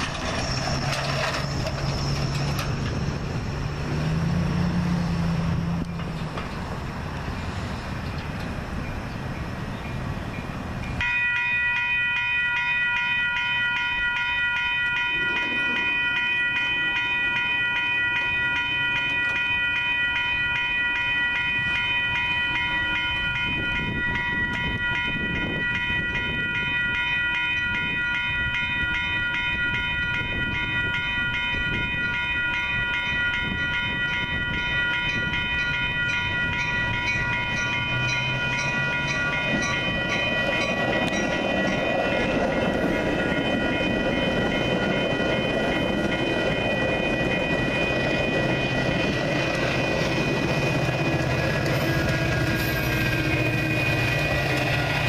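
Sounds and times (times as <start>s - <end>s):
railroad crossing warning bells: 0.0s - 55.0s.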